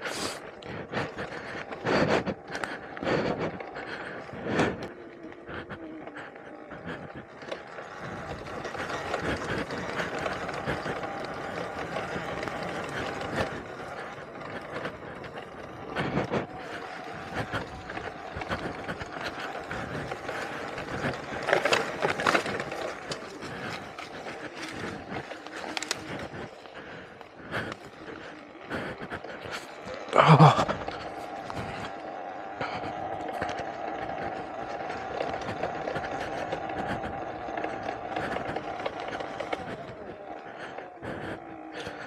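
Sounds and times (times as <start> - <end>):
chain and suspension rattling: 0.0 - 42.0
electric motor whine: 0.0 - 42.0.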